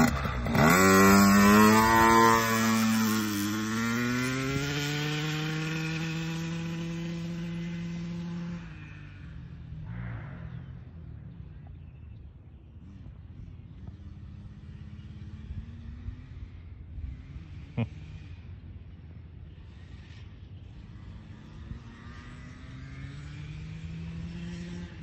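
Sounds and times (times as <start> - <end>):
dirt bike engine revving: 0.0 - 11.6, 12.8 - 25.0.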